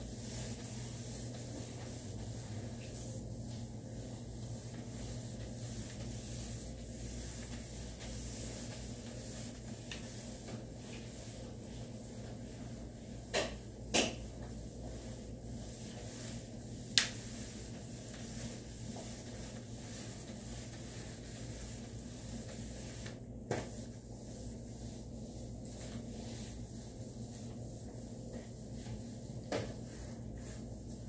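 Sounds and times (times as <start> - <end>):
office room hum: 0.0 - 31.0.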